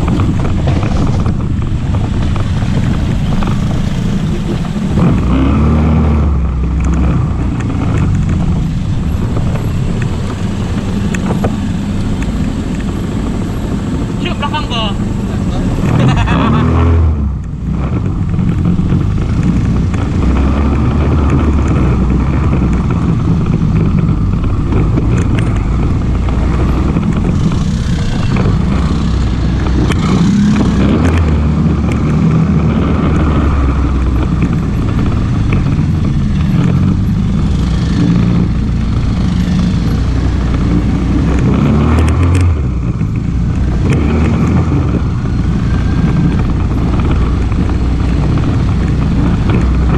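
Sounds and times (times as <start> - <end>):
quad bike engine revving: 0.0 - 49.9.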